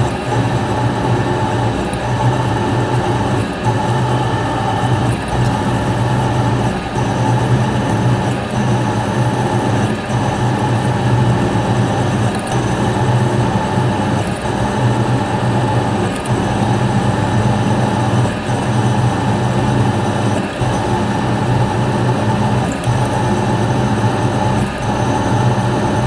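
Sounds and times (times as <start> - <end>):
metalworking machine humming: 0.0 - 26.0.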